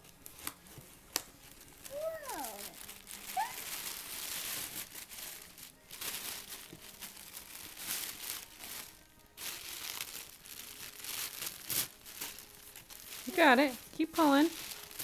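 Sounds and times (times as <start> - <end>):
tissue paper rustling: 0.0 - 15.0.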